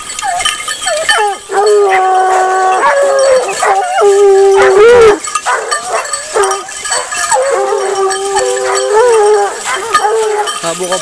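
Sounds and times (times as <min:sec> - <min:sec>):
hounds baying in chorus: 0:00.0 - 0:11.0.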